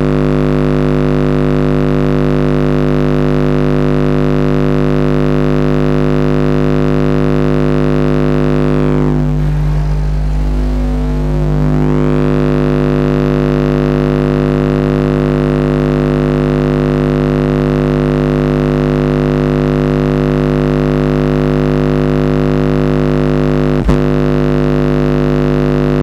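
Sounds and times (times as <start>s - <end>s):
subwoofer low test tone drone: 0.0s - 26.0s.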